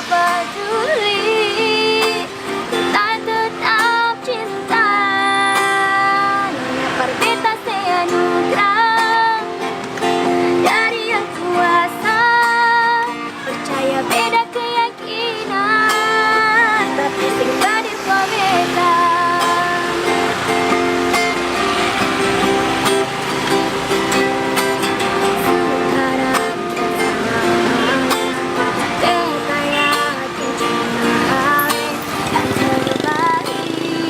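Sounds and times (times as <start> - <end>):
strummed acoustic string instrument: 0.0 - 34.0
woman singing with vibrato: 0.0 - 34.0.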